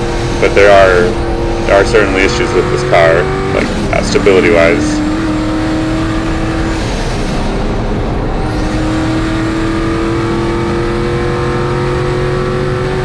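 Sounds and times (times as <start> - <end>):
race truck engine running hard: 0.0 - 13.0.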